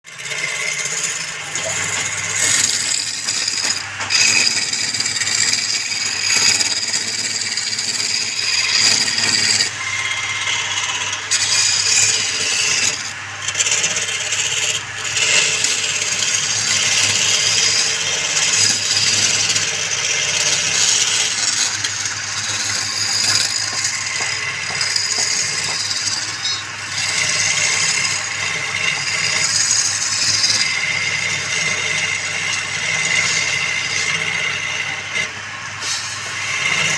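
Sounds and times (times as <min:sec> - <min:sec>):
lathe tool hissing on wood: 0:00.1 - 0:36.9.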